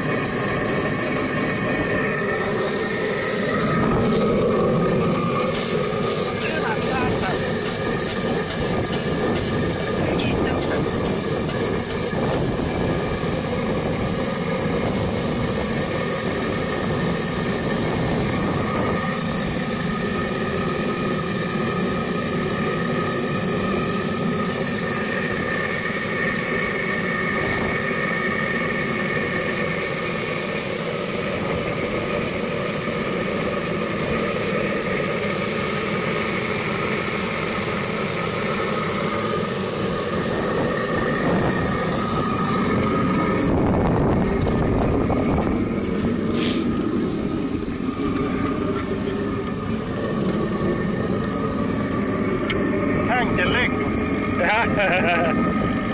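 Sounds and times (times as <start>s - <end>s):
tractor engine running: 0.0s - 28.2s, 31.2s - 55.9s.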